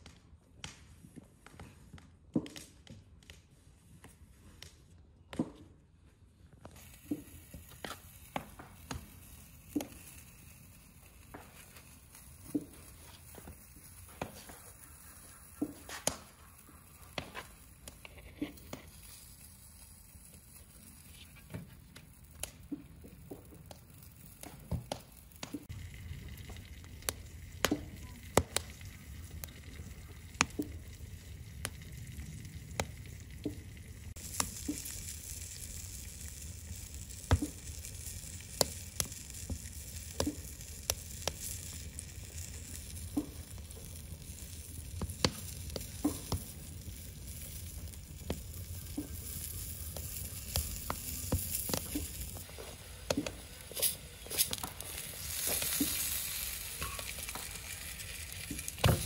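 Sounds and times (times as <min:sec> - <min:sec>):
wood fire crackling: 0:00.0 - 0:59.0
low rush of flames: 0:06.6 - 0:59.0
sharp pops: 0:06.6 - 0:59.0.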